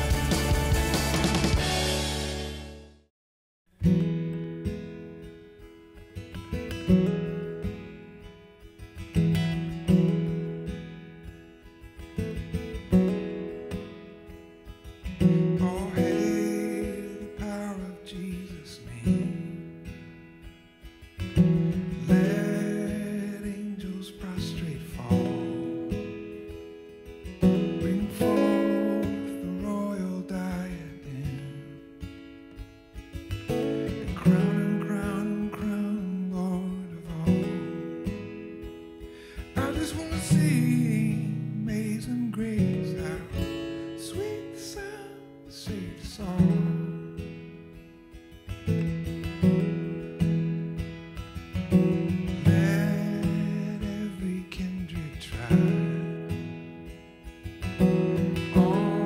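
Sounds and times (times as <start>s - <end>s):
acoustic guitar strumming chords: 0.0s - 3.1s, 3.7s - 59.0s.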